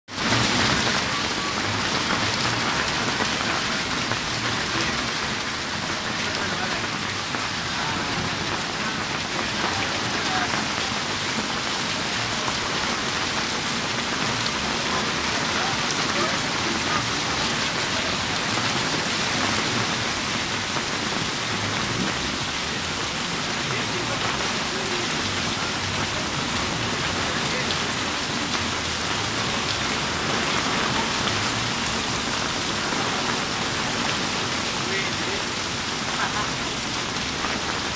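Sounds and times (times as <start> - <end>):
heavy rain falling: 0.1 - 37.9.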